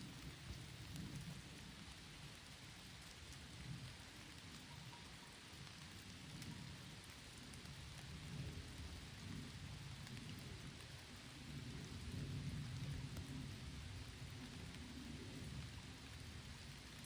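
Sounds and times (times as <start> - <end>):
faint rain falling: 0.0 - 17.0.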